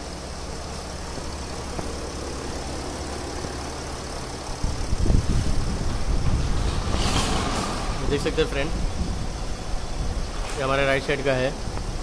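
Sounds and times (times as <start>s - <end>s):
car engine idling: 0.0s - 12.0s
uneven low rumble: 1.6s - 12.0s.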